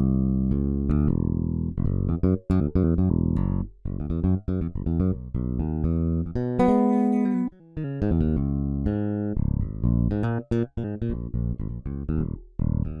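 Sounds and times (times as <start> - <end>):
electric bass plucked notes: 0.0 - 13.0.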